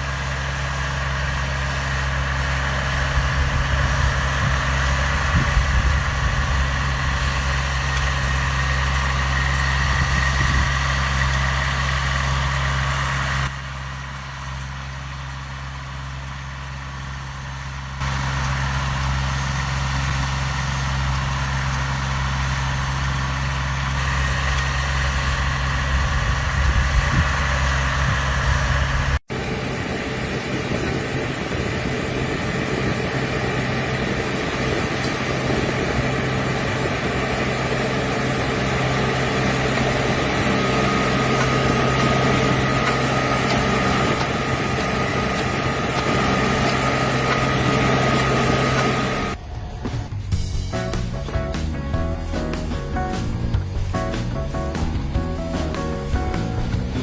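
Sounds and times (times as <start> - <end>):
farm machinery engine humming: 0.0 - 57.0
rough engine running: 0.0 - 57.0.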